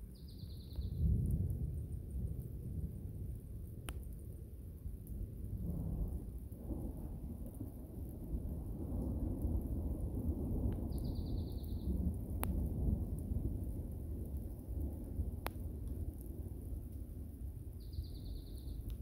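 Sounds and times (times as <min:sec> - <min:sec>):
thunder rumbling: 0:00.8 - 0:03.7, 0:05.1 - 0:19.0.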